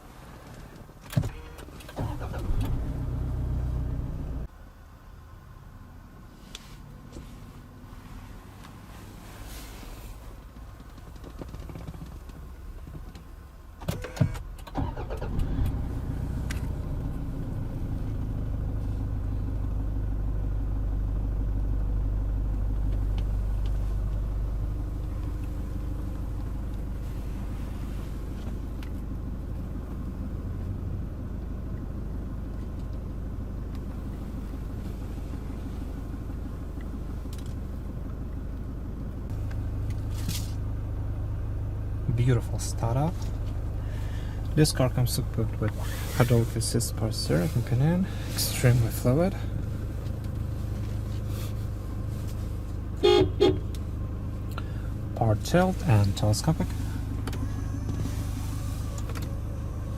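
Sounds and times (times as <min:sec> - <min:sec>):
car engine starting and idling: 0:00.0 - 0:59.9.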